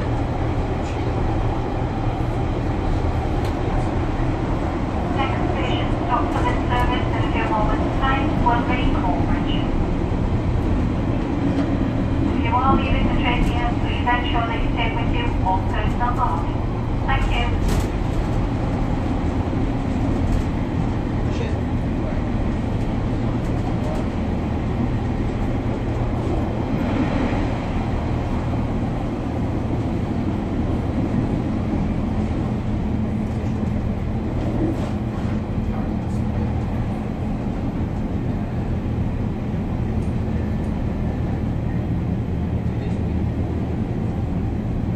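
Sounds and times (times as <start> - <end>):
diesel engine drone: 0.0 - 44.9
train carriage running noise: 0.0 - 44.9.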